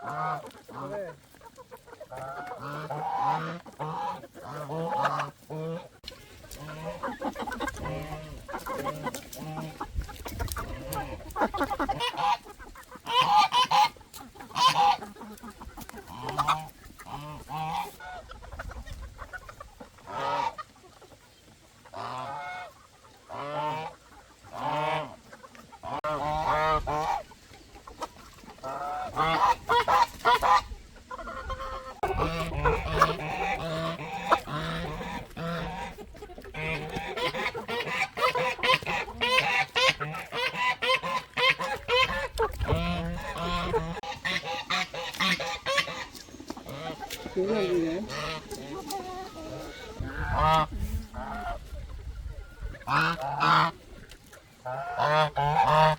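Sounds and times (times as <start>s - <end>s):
poultry flock calling: 0.0s - 55.9s.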